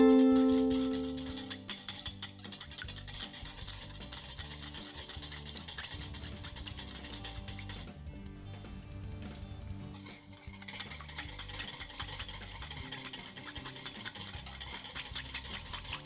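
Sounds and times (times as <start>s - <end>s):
whisk clicking against bowl: 0.0s - 8.0s, 10.0s - 16.0s
background music: 0.0s - 16.0s.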